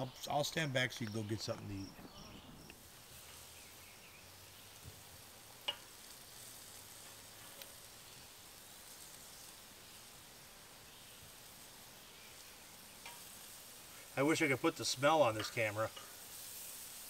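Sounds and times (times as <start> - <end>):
meat sizzling over coals: 0.0 - 17.0.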